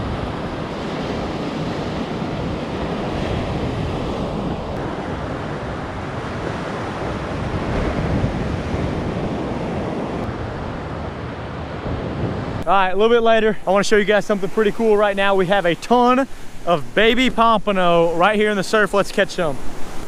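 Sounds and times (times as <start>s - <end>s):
wind buffeting microphone: 0.0s - 18.1s
surf washing onto beach: 0.0s - 20.0s.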